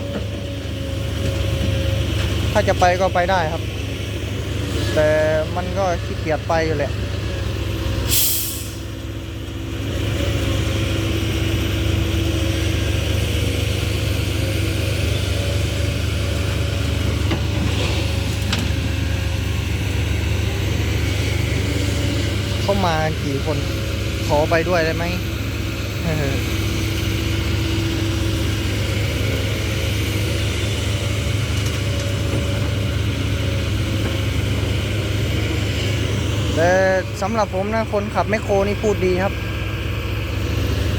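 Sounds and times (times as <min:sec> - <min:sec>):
truck diesel engine rumbling: 0:00.0 - 0:40.9.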